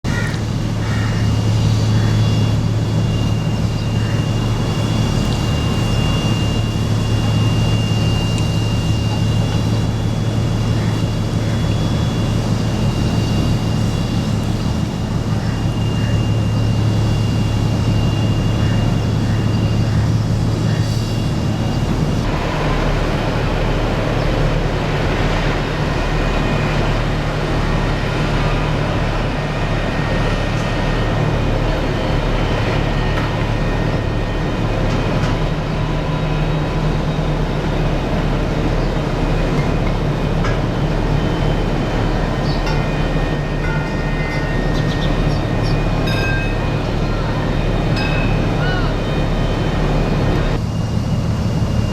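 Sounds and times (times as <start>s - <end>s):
heavy machinery drone: 0.0s - 51.9s
thin high whine: 0.1s - 51.9s.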